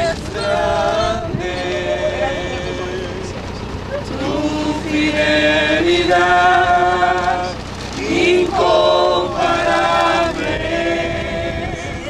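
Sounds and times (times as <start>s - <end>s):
congregation singing a hymn: 0.0s - 12.0s.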